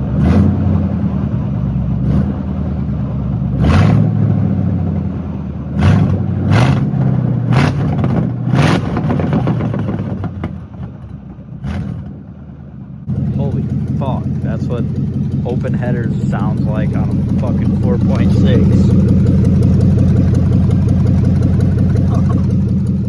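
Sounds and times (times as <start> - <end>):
engine throttle blips: 0.0 - 23.0
loud car engine idling: 0.0 - 23.0.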